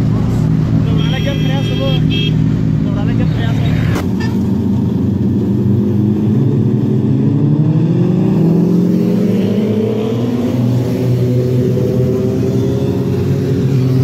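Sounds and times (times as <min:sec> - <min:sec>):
motorcycle engines passing: 0:00.0 - 0:14.0.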